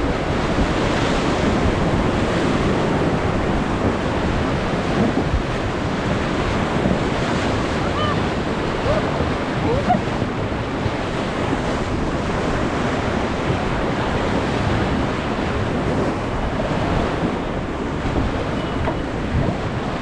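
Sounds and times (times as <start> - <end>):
whitewater rushing: 0.0 - 20.0
wind buffeting microphone: 0.0 - 20.0.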